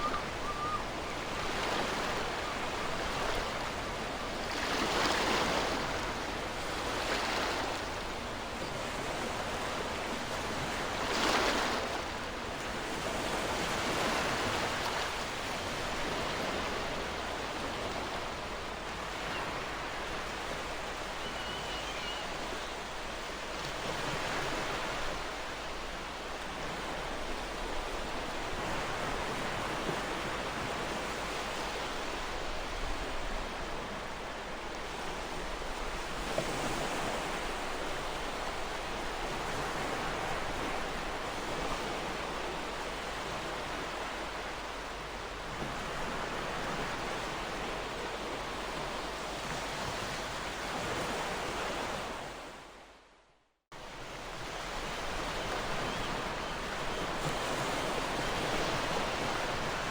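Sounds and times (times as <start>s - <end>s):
ocean waves breaking on shore: 0.0s - 53.1s, 53.8s - 59.9s.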